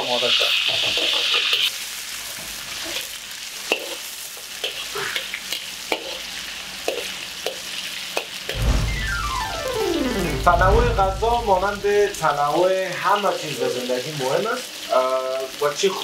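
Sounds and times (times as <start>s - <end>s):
chicken sizzling in a wok: 0.0s - 10.4s, 11.5s - 16.0s.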